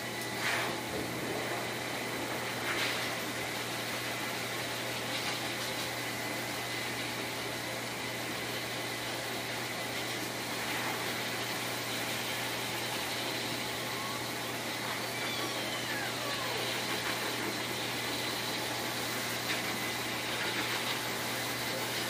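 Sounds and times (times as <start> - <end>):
blower dryer running: 0.0 - 22.0.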